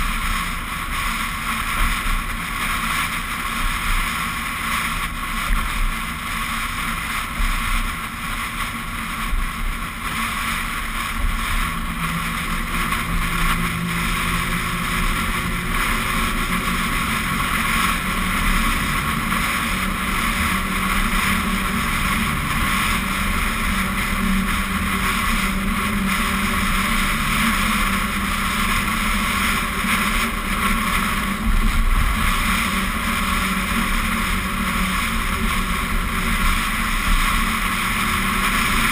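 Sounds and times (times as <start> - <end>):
wind and road noise: 0.0 - 38.9.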